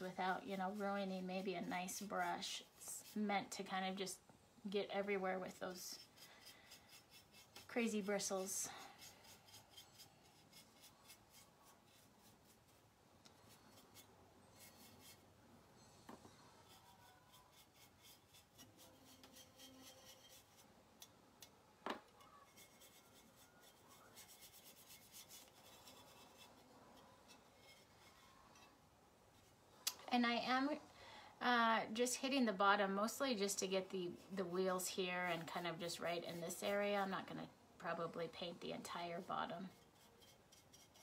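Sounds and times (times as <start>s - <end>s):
brush scratching on ceramic: 0.0s - 4.1s, 4.8s - 15.3s, 16.4s - 20.8s, 22.2s - 28.8s, 33.4s - 41.0s.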